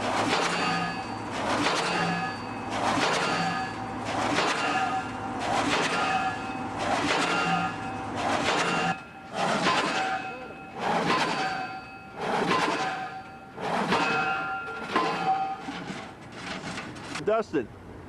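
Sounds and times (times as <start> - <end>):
pile-driving hammer pounding: 0.0 - 17.1.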